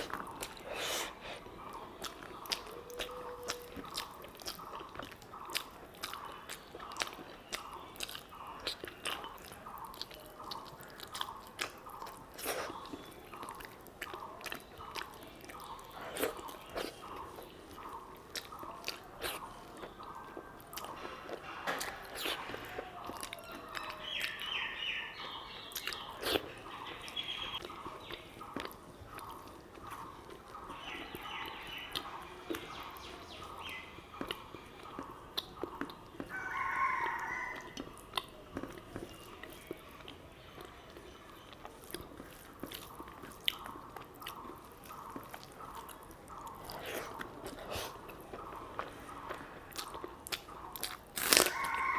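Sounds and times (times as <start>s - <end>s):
chewing and mouth clicks: 0.0s - 51.9s.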